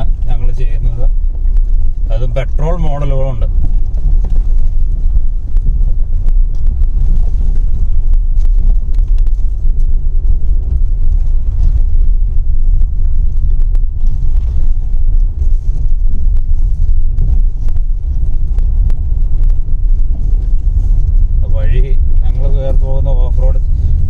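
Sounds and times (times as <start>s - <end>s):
vehicle engine low rumble: 0.0s - 24.0s.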